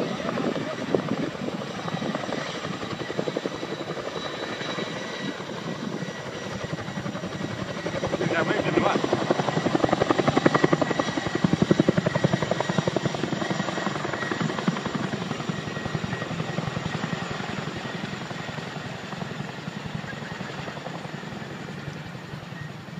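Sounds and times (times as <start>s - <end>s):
helicopter rotors beating: 0.0s - 22.9s.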